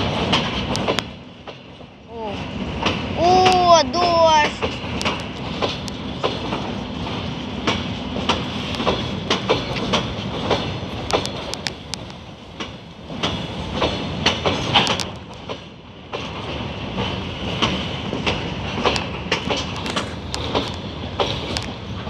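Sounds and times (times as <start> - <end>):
train rumble: 0.0 - 22.0
train wheels clattering over joints: 0.0 - 22.0.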